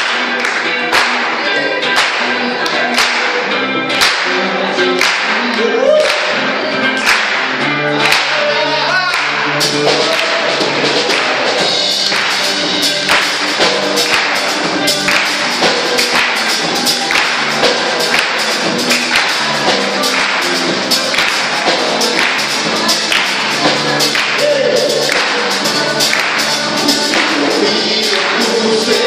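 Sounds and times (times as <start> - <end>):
singing: 0.0 - 11.5, 13.9 - 29.0
gospel band playing: 0.0 - 29.0.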